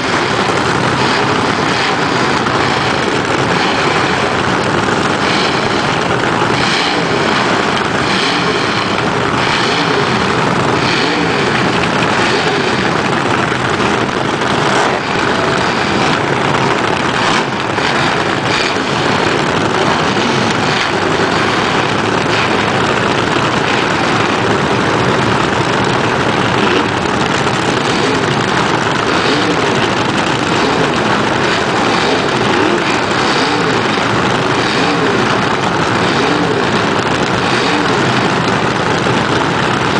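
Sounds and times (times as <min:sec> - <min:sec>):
dragster engines idling: 0:00.0 - 0:39.9.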